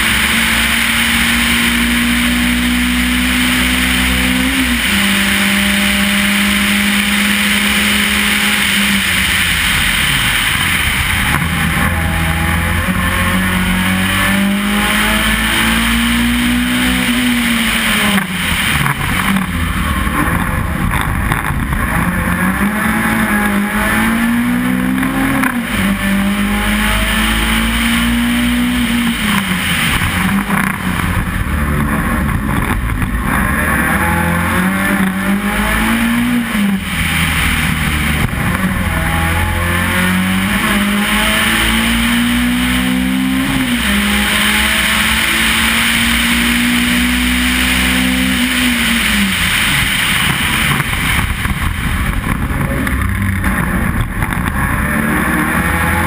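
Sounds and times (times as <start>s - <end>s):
race car engine accelerating: 0.0s - 56.0s
road and wind noise: 0.0s - 56.0s.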